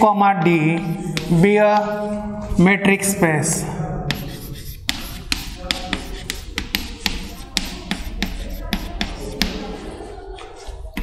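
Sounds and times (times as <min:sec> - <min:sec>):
chalk tapping on blackboard: 0:00.6 - 0:02.2, 0:03.6 - 0:11.0.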